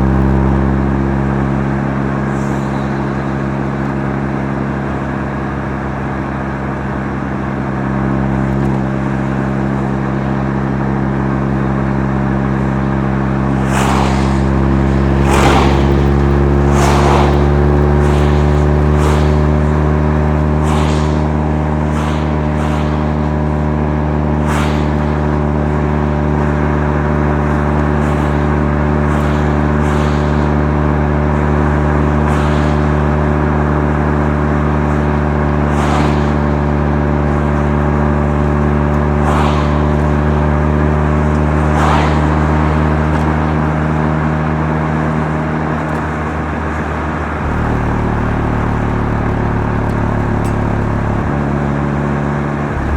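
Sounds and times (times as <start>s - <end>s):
car engine droning: 0.0s - 52.9s.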